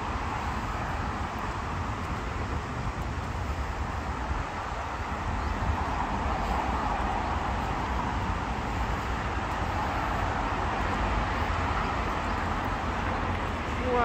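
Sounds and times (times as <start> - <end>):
low traffic rumble: 0.0 - 14.0
road traffic hum: 0.0 - 14.0.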